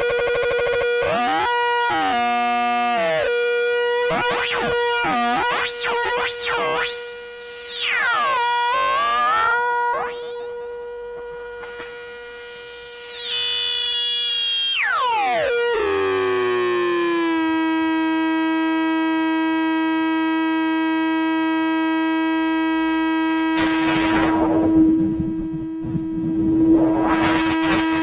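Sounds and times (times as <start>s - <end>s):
synthesizer electronic tones: 4.0s - 11.0s, 12.3s - 28.0s.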